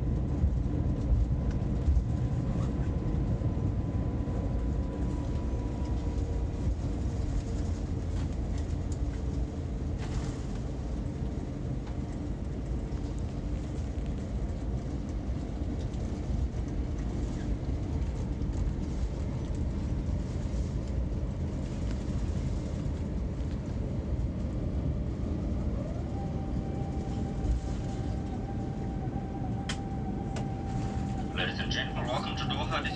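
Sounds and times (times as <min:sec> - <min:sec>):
airplane rolling on ground: 0:00.0 - 0:32.9.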